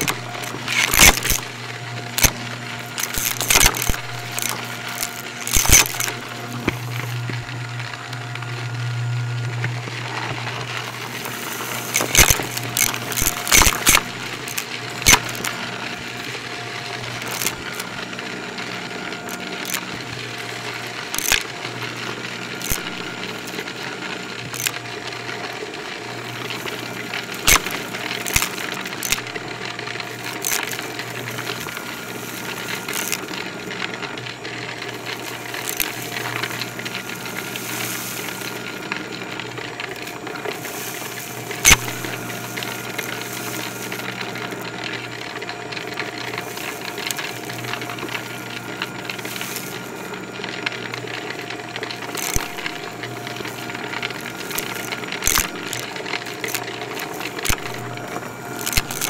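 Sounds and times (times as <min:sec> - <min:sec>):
debris clicking and rattling: 0:00.0 - 0:08.1, 0:10.2 - 0:18.2, 0:19.1 - 0:23.8, 0:24.4 - 0:24.8, 0:26.2 - 0:59.0
vacuum cleaner running: 0:00.0 - 0:59.0.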